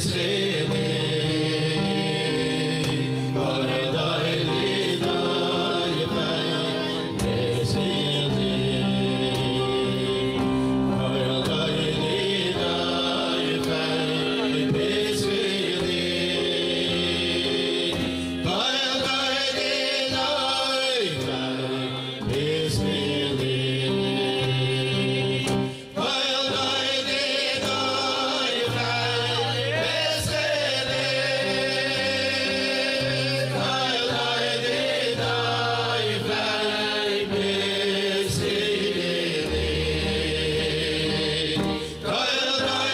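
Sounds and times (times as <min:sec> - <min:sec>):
instrumental accompaniment: 0:00.0 - 0:42.9
men singing together: 0:00.0 - 0:42.9.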